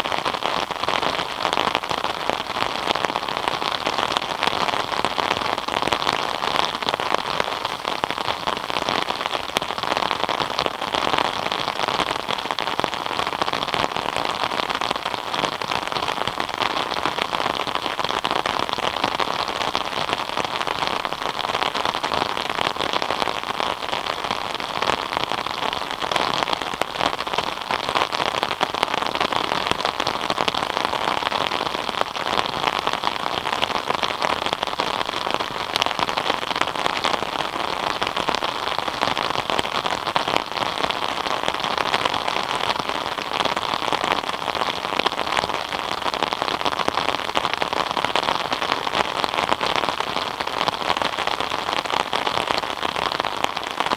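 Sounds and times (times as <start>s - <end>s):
steady rain with drop hits: 0.0s - 53.9s.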